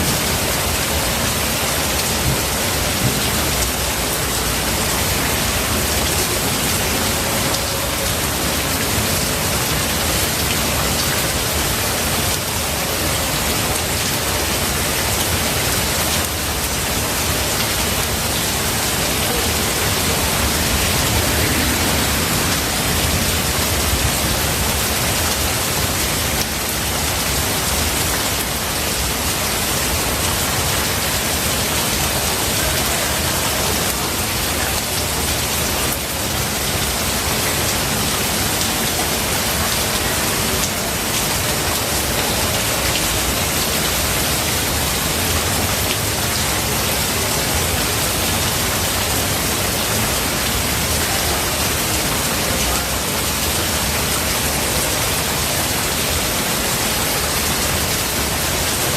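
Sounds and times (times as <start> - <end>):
heavy rain in a forest: 0.0 - 58.9.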